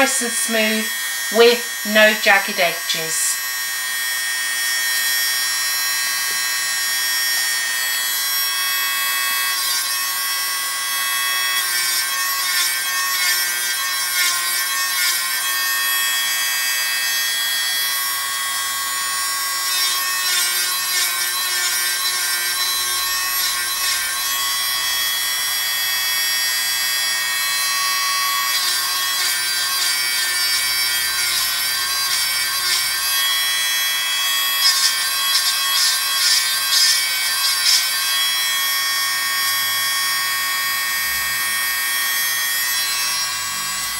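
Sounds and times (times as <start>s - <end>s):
electric nail drill whining: 0.0s - 43.9s.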